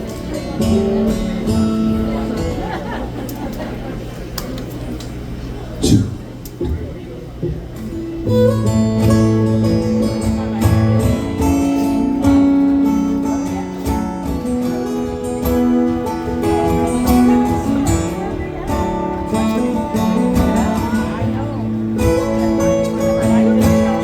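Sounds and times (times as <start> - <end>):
acoustic guitar strumming: 0.0 - 3.0, 7.4 - 24.0.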